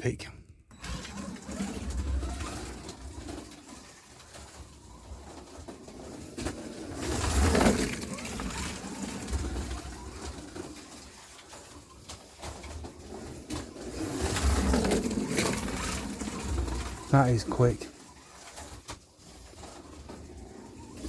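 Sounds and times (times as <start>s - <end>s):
slot car motor rumbling: 0.7s - 11.9s, 12.8s - 18.2s, 19.6s - 21.0s.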